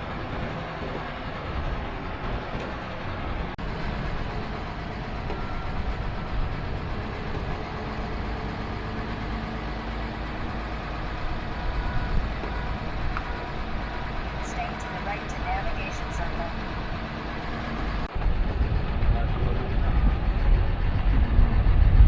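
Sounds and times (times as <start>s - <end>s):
diesel pickup engine: 0.0s - 22.0s
road rumble: 0.0s - 22.0s.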